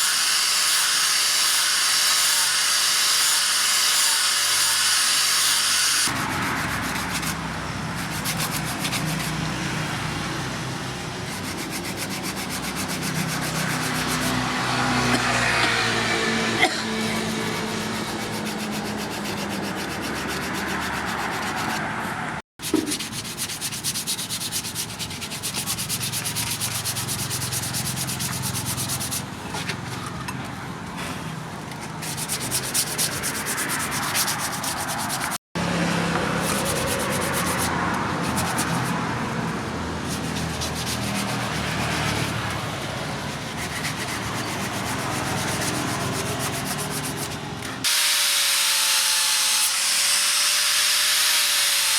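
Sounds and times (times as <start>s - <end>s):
sanding knife rasping: 0.0s - 9.5s, 11.2s - 29.4s, 31.8s - 35.4s, 36.2s - 51.9s.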